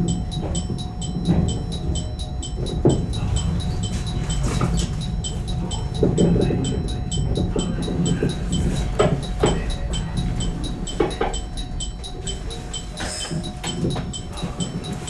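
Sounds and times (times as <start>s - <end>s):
electric train hum and rumble: 0.0s - 15.0s
high electronic chime beeping: 0.0s - 15.0s.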